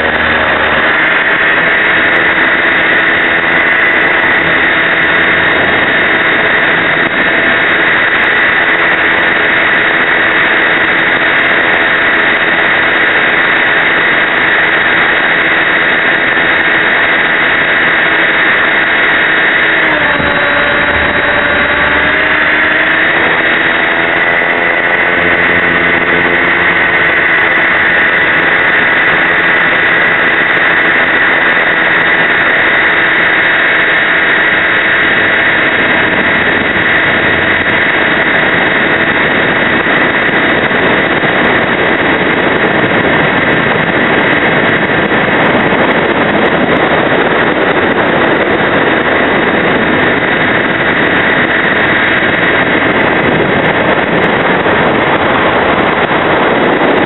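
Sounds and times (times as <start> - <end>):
rc helicopter motor whine: 0.0 - 57.0
rotor and vibration noise: 0.0 - 57.0.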